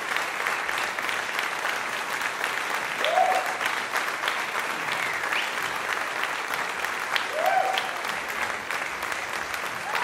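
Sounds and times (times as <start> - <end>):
hands clapping: 0.0 - 10.0.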